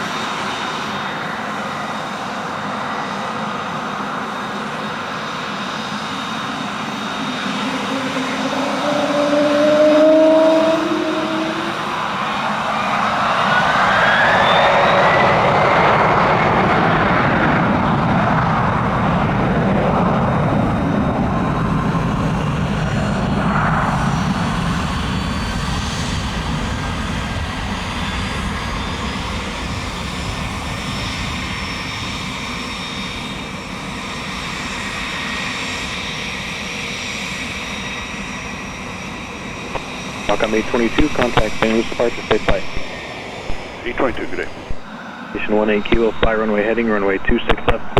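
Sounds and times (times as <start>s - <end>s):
jet engines at takeoff: 0.0s - 47.9s.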